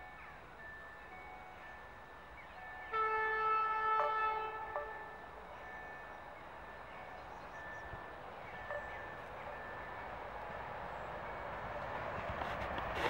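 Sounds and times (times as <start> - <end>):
train wheels rumbling on rail: 0.8 - 13.0.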